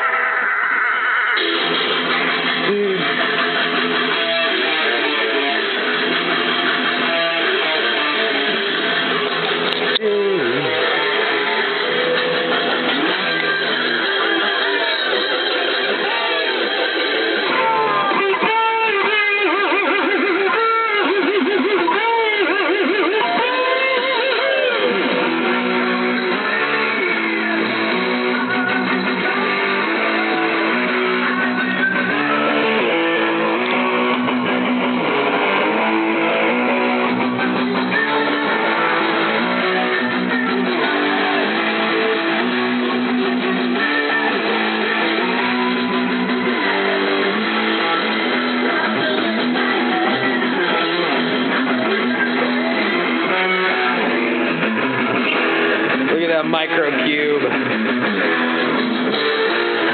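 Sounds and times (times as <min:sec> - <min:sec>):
electric guitar riff: 0:00.0 - 0:59.9.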